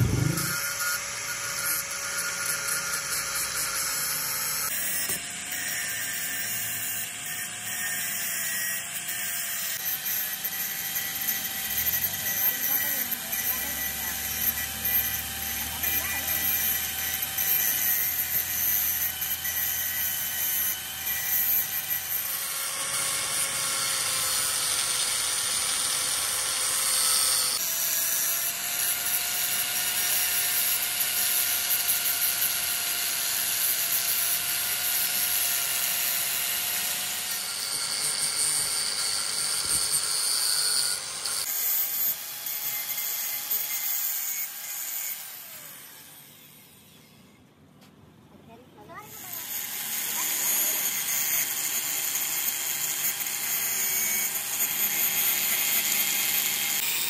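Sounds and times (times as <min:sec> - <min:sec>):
angle grinder grinding metal: 0:00.0 - 0:47.4, 0:49.0 - 0:57.0.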